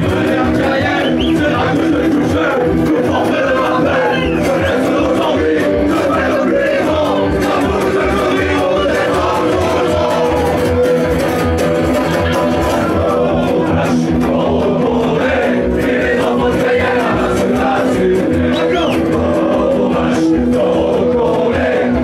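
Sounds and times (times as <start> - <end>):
live rock band playing: 0.0 - 22.0
men singing together: 0.0 - 22.0.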